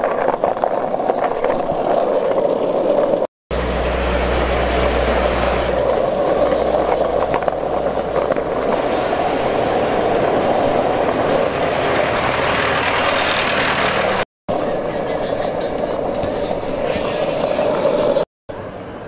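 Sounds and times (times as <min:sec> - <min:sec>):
skateboard wheels rolling on pavement: 0:00.0 - 0:19.0
traffic engine hum: 0:00.2 - 0:19.0.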